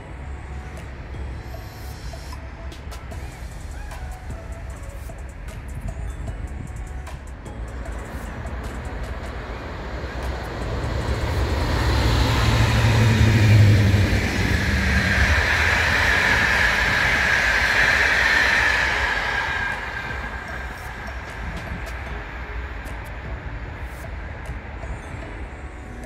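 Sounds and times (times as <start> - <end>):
electric locomotive hum: 0.0 - 26.0
high steady tone: 0.0 - 26.0
train wheels rolling on rails: 0.0 - 26.0.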